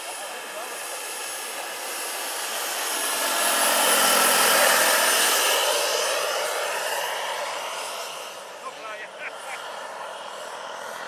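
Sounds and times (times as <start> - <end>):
model helicopter flying past: 0.0 - 11.0.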